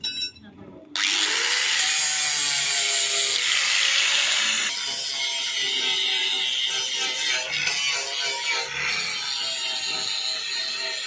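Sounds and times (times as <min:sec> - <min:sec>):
angle grinder grinding metal: 0:01.0 - 0:11.0.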